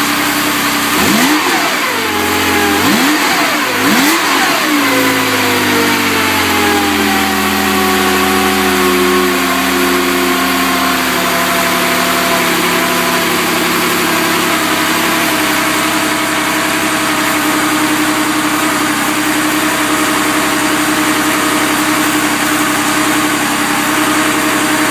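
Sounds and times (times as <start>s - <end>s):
car engine revving and idling: 0.0s - 24.9s.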